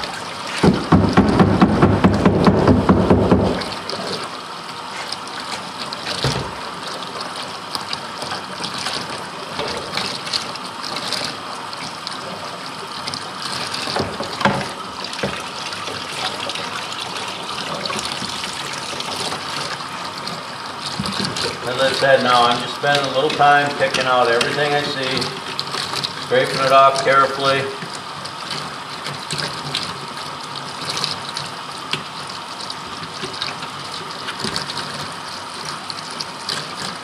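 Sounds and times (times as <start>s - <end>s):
water stream running: 0.0s - 37.0s.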